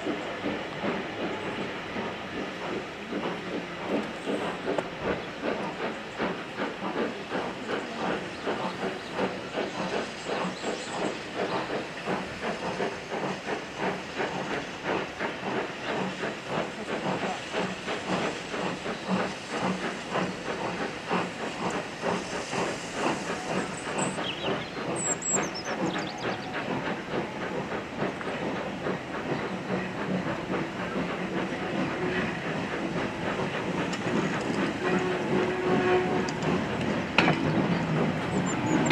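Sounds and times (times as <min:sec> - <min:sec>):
steam hissing: 0:00.0 - 0:38.9
steam locomotive exhaust beats: 0:00.0 - 0:38.9.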